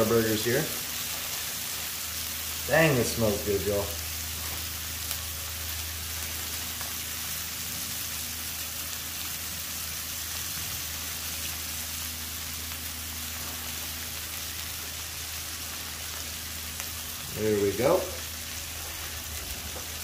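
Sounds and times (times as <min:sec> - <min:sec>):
burger patties sizzling on griddle: 0:00.0 - 0:20.0
low steady hum: 0:00.0 - 0:20.0.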